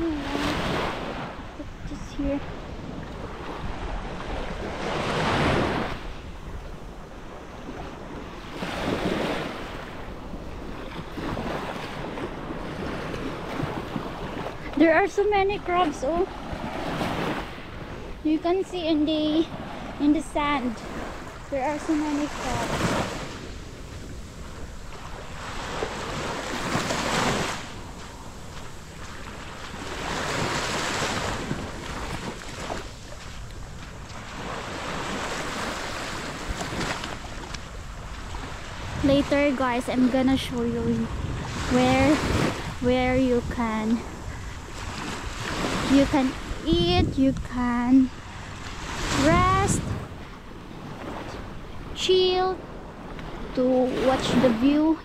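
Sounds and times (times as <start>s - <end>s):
sea waves washing onto beach: 0.0s - 55.0s
wind on microphone: 0.0s - 55.0s.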